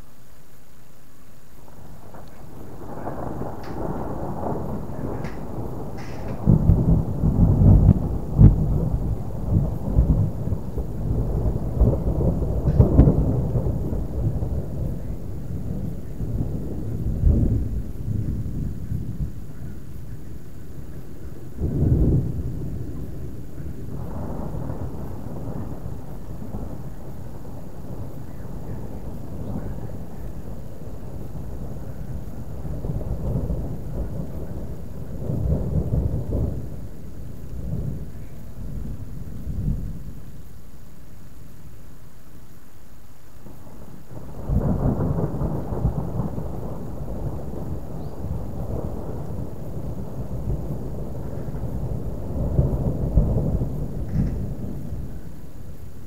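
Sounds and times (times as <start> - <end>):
rolling thunder: 1.6 - 40.6, 43.3 - 56.0.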